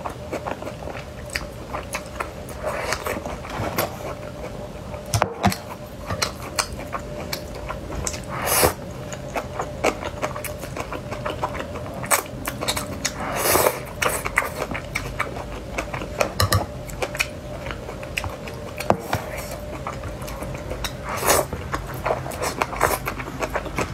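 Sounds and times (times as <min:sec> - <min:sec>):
wet chewing and smacking: 0:00.0 - 0:23.9.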